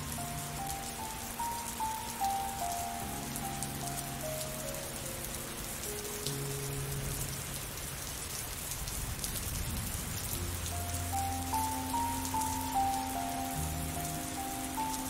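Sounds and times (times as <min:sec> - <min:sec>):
soft background melody: 0:00.0 - 0:08.5, 0:10.2 - 0:15.0
steady rain falling: 0:00.0 - 0:15.0.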